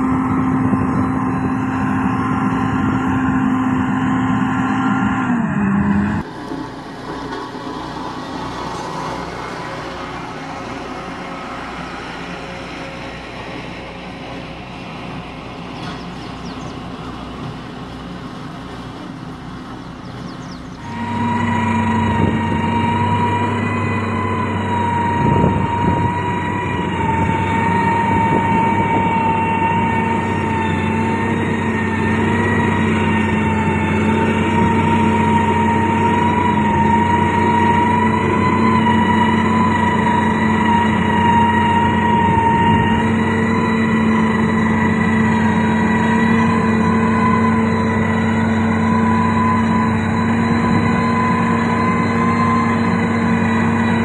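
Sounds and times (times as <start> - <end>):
high-pitched machine whine: 0.0 - 17.4, 20.3 - 54.0
heavy machinery engine hum: 0.0 - 54.0.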